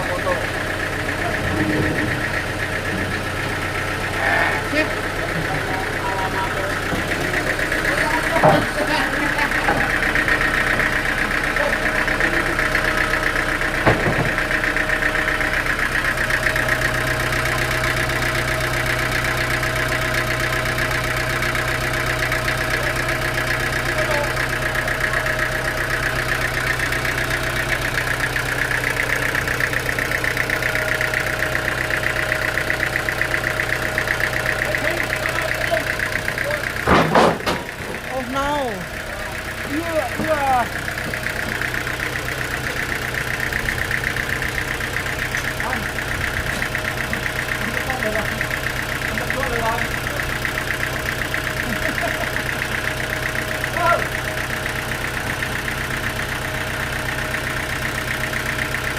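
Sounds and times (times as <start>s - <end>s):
deep hum: 0.0s - 56.0s
engine idling: 0.0s - 58.9s.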